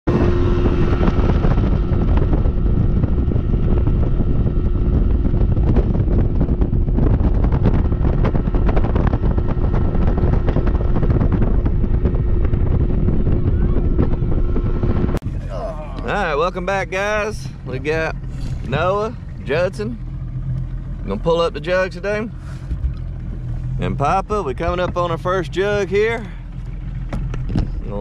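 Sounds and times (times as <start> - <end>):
outboard motor running: 0.0 - 28.0
wind buffeting microphone: 0.0 - 28.0.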